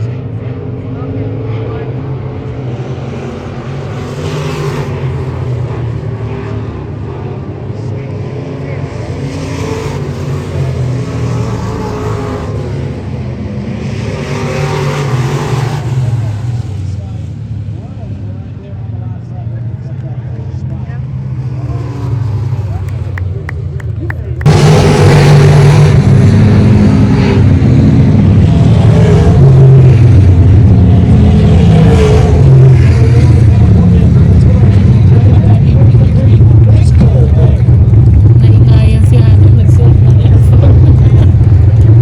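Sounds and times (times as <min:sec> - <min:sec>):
race car engines passing: 0:00.0 - 0:42.0.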